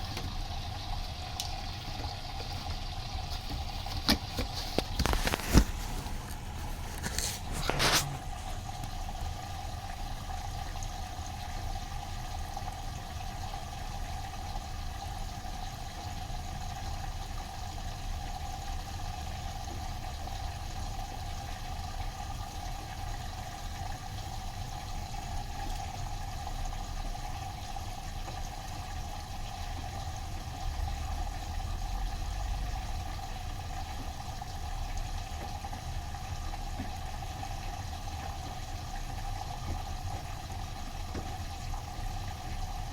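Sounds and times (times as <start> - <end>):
washing machine running: 0.0 - 42.9.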